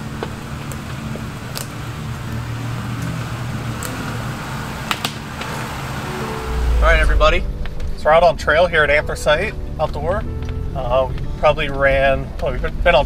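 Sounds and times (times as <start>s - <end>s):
off-road vehicle engines humming: 0.0s - 13.0s.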